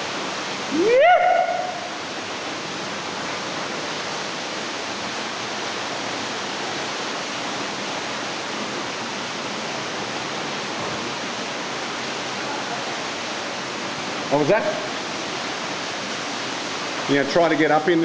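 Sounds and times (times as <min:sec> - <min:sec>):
waterfall splashing into pool: 0:00.0 - 0:18.0.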